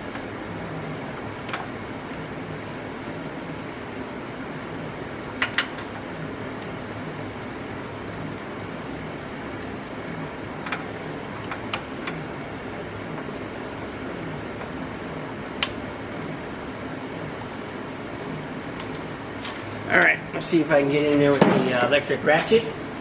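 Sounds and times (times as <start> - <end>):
background hum and hiss: 0.0 - 23.0.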